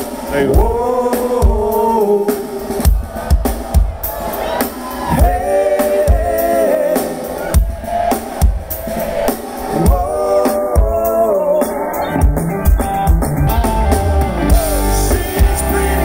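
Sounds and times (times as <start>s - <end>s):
live band playing: 0.0s - 16.0s
sung vocals: 0.0s - 16.0s.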